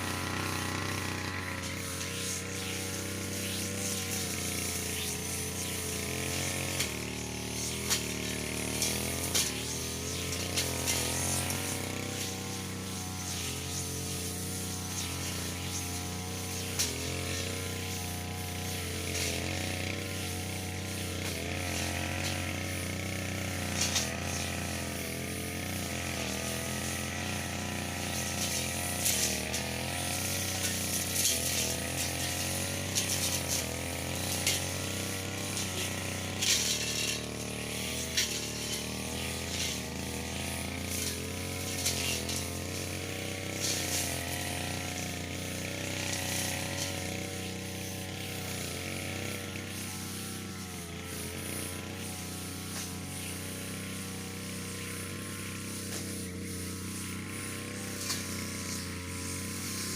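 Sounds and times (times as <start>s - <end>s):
cutting head swishing through grass: 0.0s - 25.2s, 25.8s - 59.9s
brush cutter engine running: 0.0s - 59.9s.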